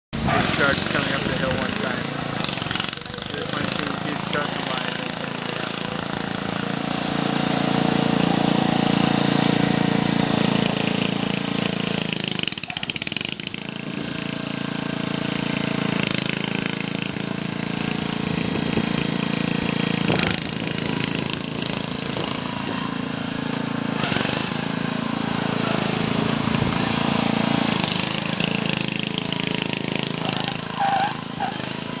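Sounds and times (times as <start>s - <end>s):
tractor engine running: 0.2s - 32.0s.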